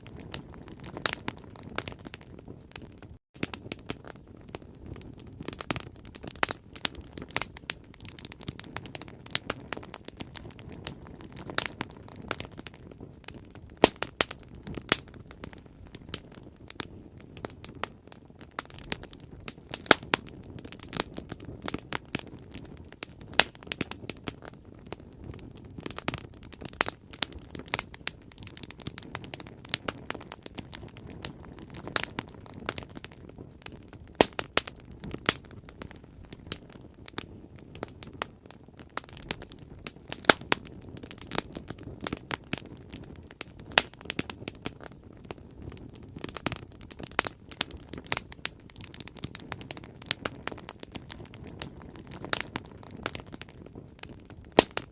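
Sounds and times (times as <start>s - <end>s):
low rush of flame: 0.0s - 54.9s
wood crackling and popping: 0.0s - 54.9s.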